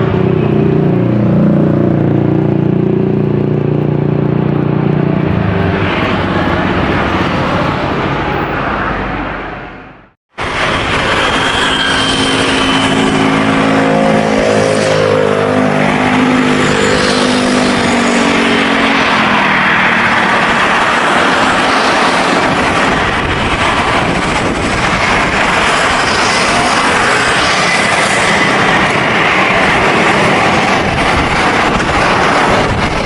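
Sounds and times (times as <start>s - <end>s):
jet airliner passing roar: 0.0s - 33.0s.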